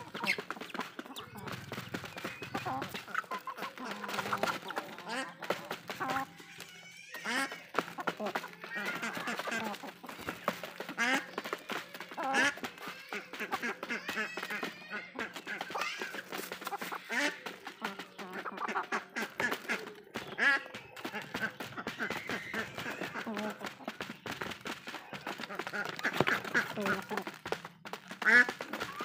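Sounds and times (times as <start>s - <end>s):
beaks pecking cardboard: 0.0s - 29.0s
hens clucking: 0.0s - 29.0s.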